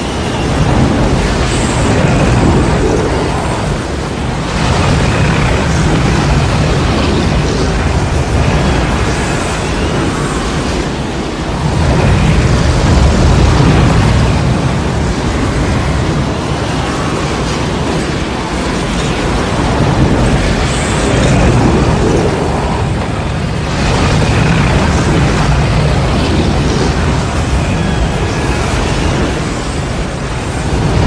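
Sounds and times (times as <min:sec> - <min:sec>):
deep rumble: 0:00.0 - 0:31.0
roar of rushing wind: 0:00.0 - 0:31.0.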